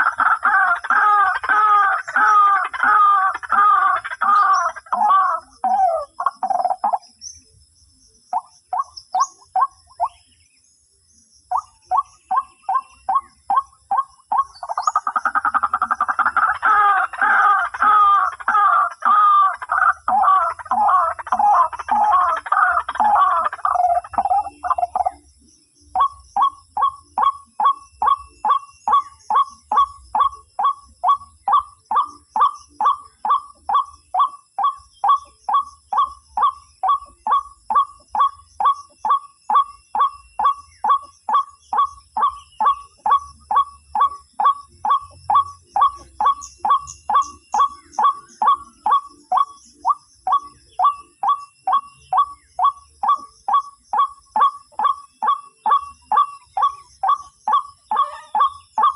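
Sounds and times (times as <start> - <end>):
waterhen calling: 0.0 - 7.0, 11.5 - 25.2, 26.8 - 58.9.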